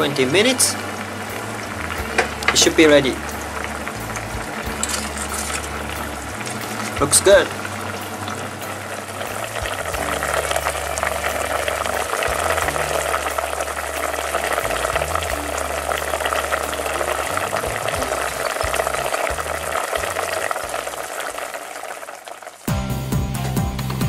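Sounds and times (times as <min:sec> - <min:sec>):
liquid bubbling in pot: 0:00.0 - 0:22.7.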